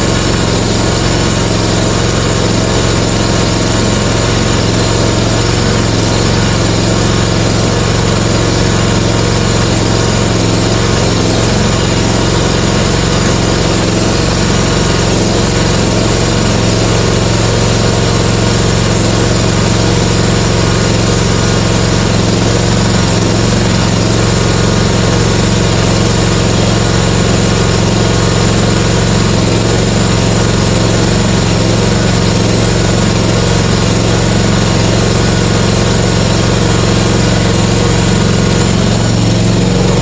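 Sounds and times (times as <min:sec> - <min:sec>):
riding mower engine running: 0:00.0 - 0:40.0.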